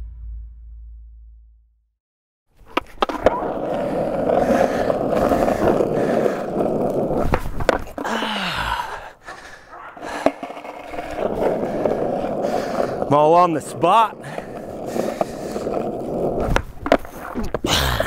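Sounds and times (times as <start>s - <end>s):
skateboard wheels rolling on asphalt: 2.5s - 17.7s.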